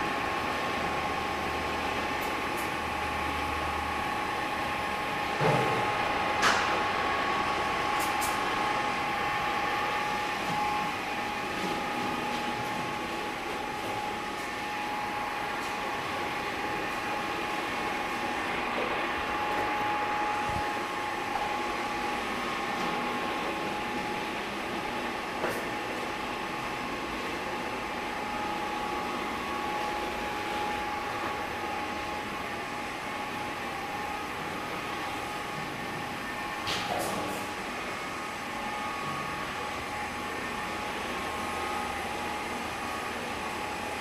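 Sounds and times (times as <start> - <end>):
mixer humming and whining: 0.0 - 44.0.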